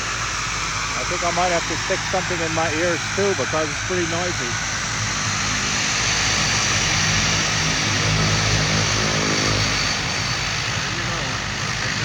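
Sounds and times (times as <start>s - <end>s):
propeller engine drone: 0.0s - 12.0s.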